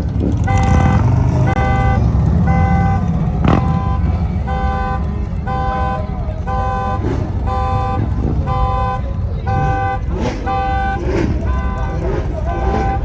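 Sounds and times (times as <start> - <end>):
low rumble of cars: 0.0 - 13.0
car alarm horn tone: 0.4 - 13.0.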